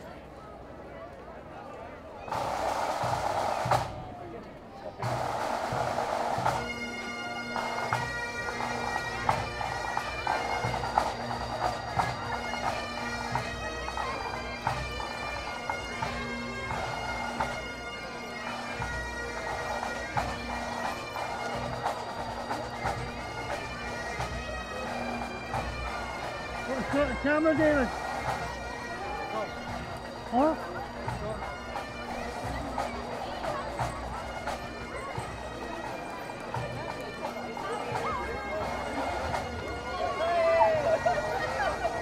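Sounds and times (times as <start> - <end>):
bagpipes playing: 2.3 - 4.0, 5.0 - 42.0.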